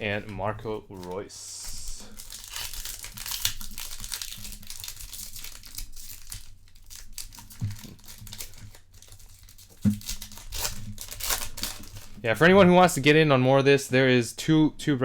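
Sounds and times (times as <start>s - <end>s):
foil wrappers crinkling and tearing: 0.1s - 13.2s.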